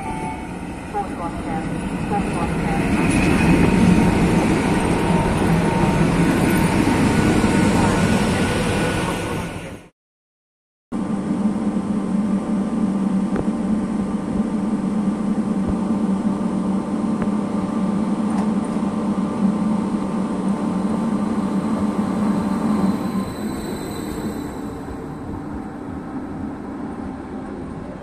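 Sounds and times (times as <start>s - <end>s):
electric train hum: 0.0s - 9.9s, 11.0s - 28.0s
whining tones of electric trains: 0.0s - 9.9s, 11.0s - 28.0s.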